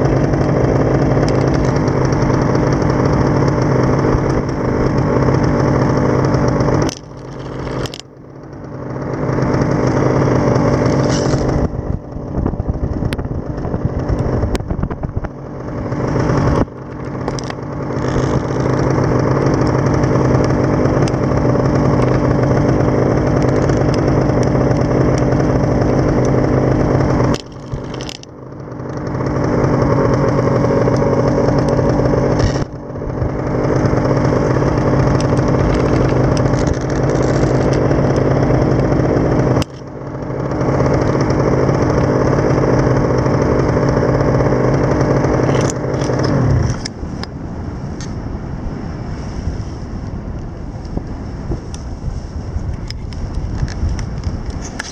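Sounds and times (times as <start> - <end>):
paramotor engine and propeller: 0.0 - 54.9.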